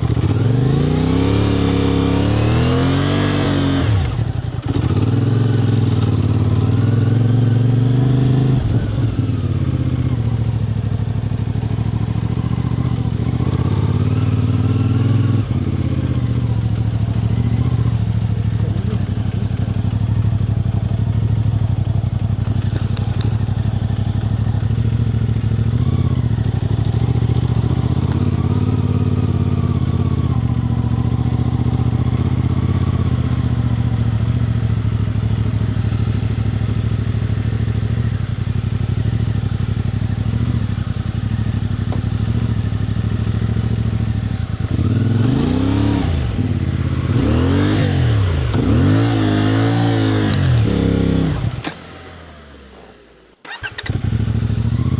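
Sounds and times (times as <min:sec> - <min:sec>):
vehicle engine running and revving: 0:00.0 - 0:54.9.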